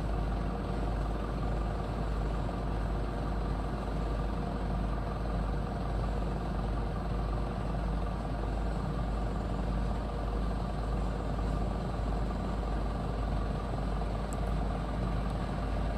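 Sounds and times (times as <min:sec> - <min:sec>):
low engine hum: 0:00.0 - 0:15.9.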